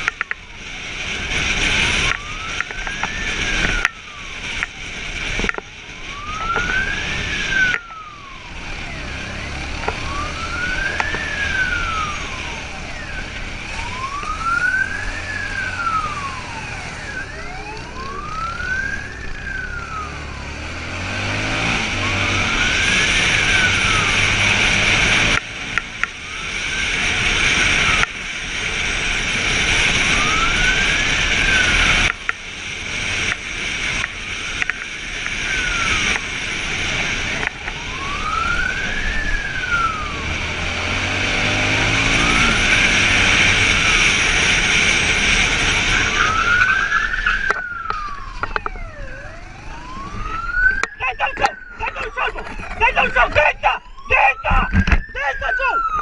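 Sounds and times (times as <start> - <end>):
police siren wailing: 0.0 - 56.0.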